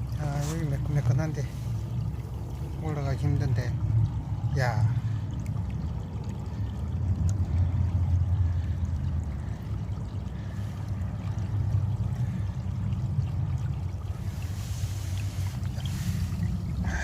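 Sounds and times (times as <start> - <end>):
water running in a channel: 0.0 - 17.0.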